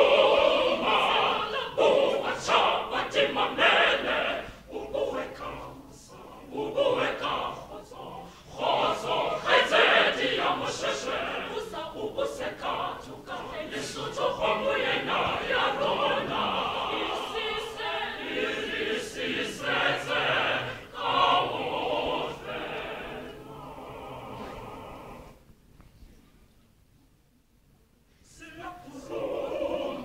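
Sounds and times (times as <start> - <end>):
mixed choir singing: 0.0 - 25.4, 28.3 - 30.0.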